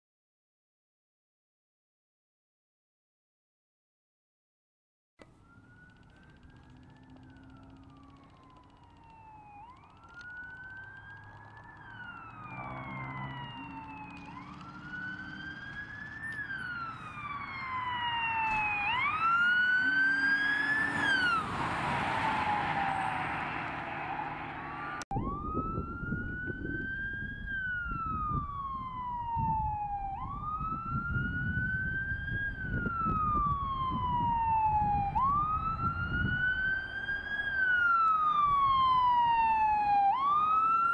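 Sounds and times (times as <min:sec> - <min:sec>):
emergency siren wailing: 0:05.2 - 0:40.9
engine and road rumble: 0:05.2 - 0:40.9
road noise rush: 0:05.2 - 0:40.9.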